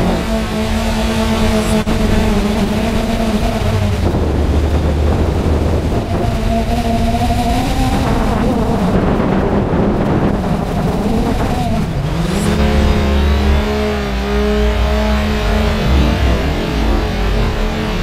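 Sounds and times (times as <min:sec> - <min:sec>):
deep tone with low rumble: 0:00.0 - 0:18.0
drone propellers whining: 0:00.0 - 0:18.0.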